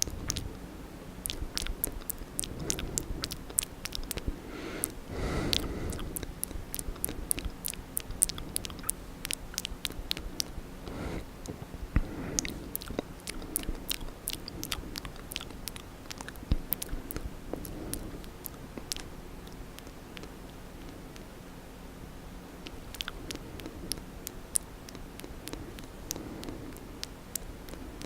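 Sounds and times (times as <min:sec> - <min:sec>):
wet mouth clicks and smacks: 0:00.0 - 0:00.5, 0:01.2 - 0:20.3, 0:22.6 - 0:27.8.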